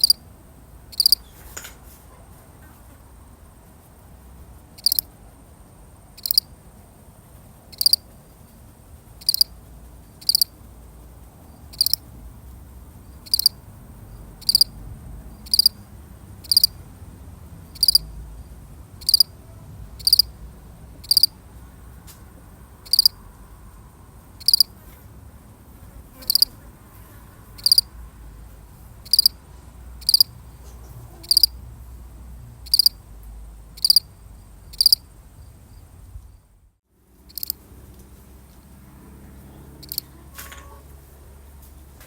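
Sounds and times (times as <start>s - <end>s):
cricket chirping: 0.0s - 1.7s, 3.0s - 25.4s, 26.1s - 26.6s, 27.4s - 37.8s, 39.7s - 40.1s.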